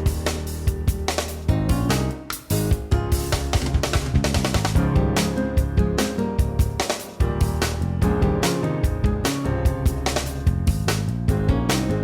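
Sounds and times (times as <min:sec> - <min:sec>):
drum beat: 0:00.0 - 0:12.0.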